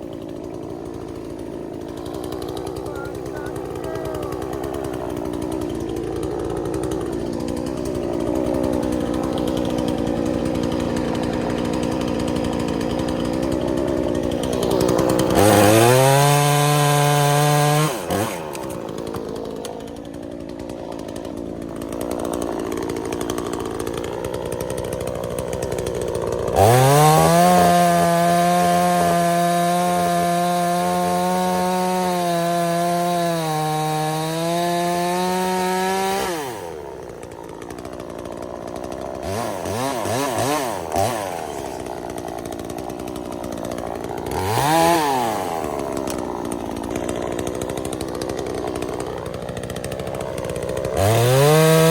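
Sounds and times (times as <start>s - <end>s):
chainsaw cutting logs: 0.0s - 51.9s.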